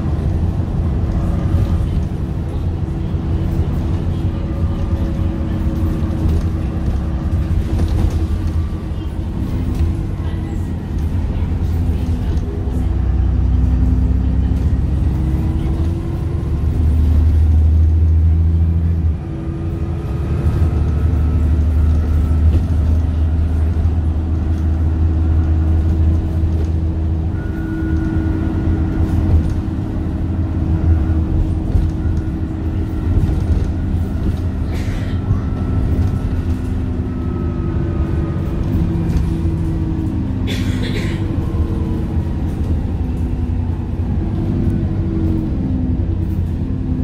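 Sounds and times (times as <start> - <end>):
bus diesel engine drone: 0.0 - 47.0.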